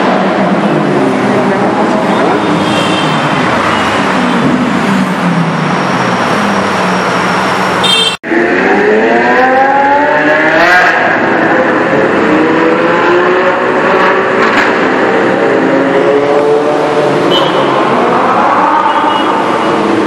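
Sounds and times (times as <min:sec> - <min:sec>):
car engines running hard: 0:00.0 - 0:20.0.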